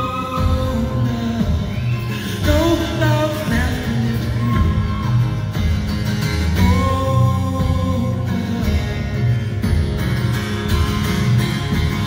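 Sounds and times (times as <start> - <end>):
live band with guitars: 0.0 - 12.0.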